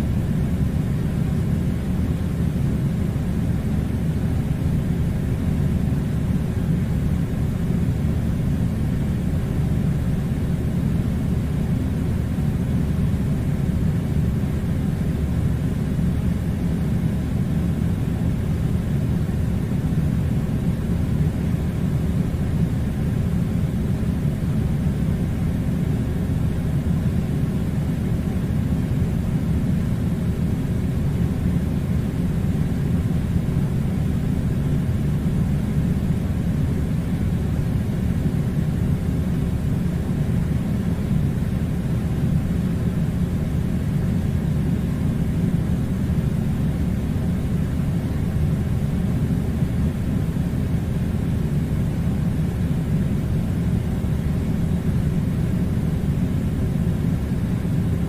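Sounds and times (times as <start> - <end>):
air conditioner rumbling: 0.0 - 58.0.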